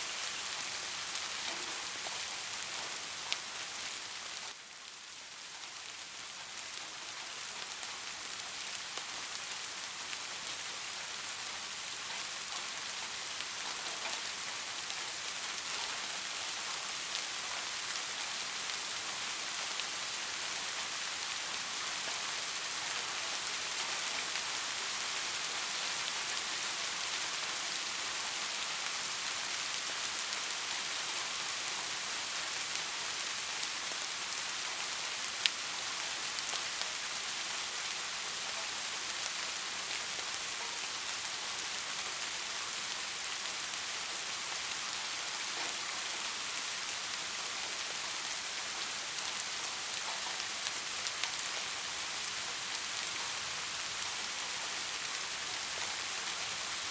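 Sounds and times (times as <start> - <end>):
steady rain hiss: 0.0 - 56.9.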